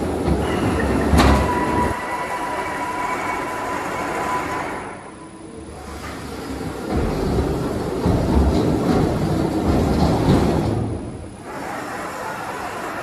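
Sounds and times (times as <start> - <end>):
high whine of drives: 0.0 - 13.0
machine low rumble: 0.0 - 13.0.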